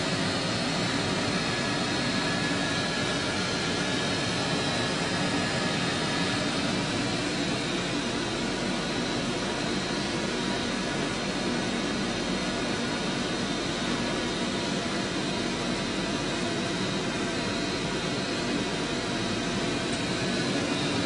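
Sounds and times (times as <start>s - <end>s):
heater fan blowing air: 0.0s - 21.0s.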